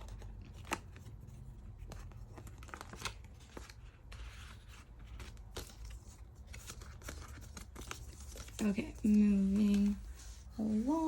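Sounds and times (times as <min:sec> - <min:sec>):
paper and plastic rustling: 0:00.0 - 0:11.0.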